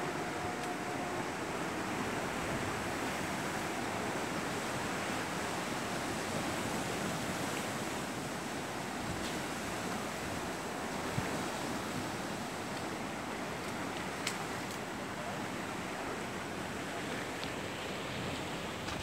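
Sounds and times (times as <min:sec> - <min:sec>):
ocean waves rushing: 0:00.0 - 0:19.0.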